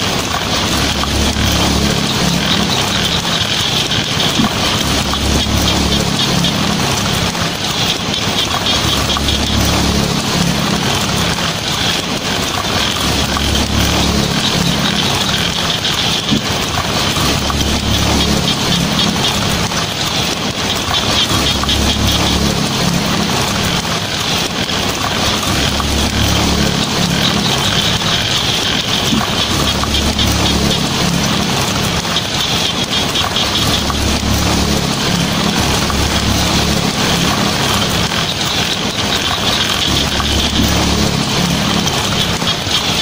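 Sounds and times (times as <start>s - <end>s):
heavy rain on a tin roof: 0.0s - 43.0s.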